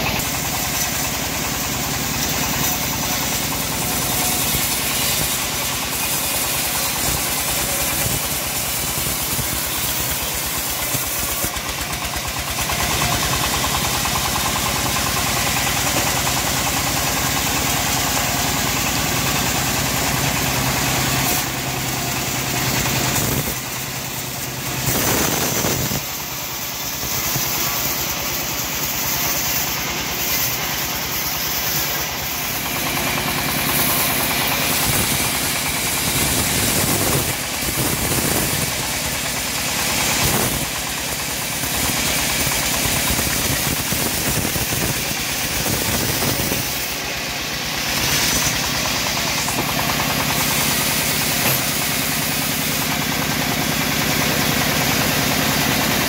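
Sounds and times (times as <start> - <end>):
engine running a sawmill: 0.0 - 56.0.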